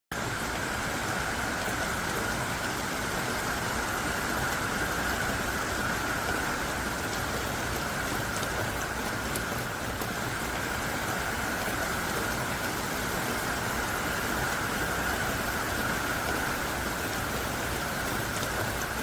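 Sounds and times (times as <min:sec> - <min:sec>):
heavy rain falling: 0:00.2 - 0:19.0.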